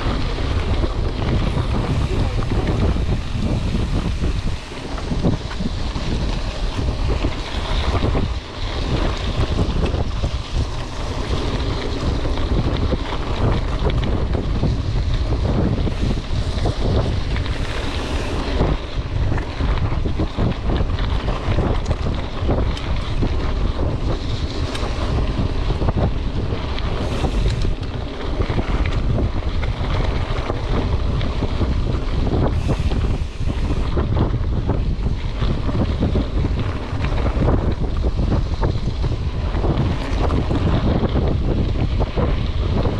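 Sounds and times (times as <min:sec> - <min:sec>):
bike rattling over bumps: 0:00.0 - 0:42.9
tyres rumbling on gravel: 0:00.0 - 0:42.9
wind buffeting the microphone: 0:00.0 - 0:42.9.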